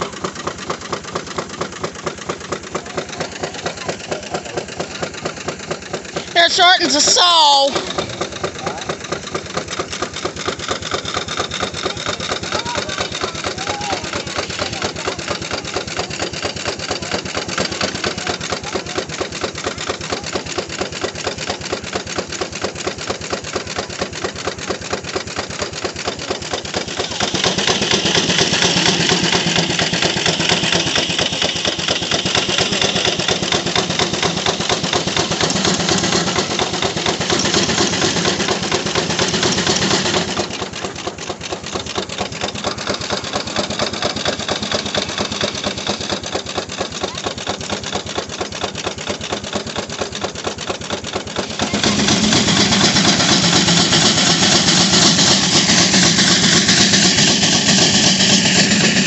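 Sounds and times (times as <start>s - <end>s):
circular saw cutting log: 0.0s - 59.0s
steam engine exhaust beating: 0.0s - 59.0s.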